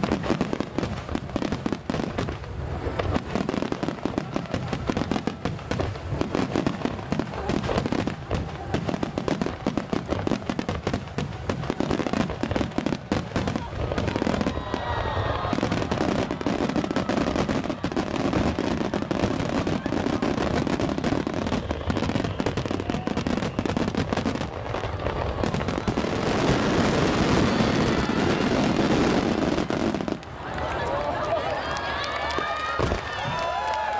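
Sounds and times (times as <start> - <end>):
fireworks barrage: 0.0 - 33.9.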